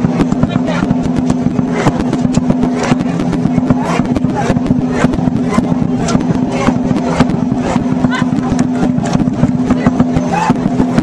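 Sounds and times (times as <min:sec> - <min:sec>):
big drum beaten fast: 0:00.0 - 0:11.0
steady low ringing: 0:00.0 - 0:11.0.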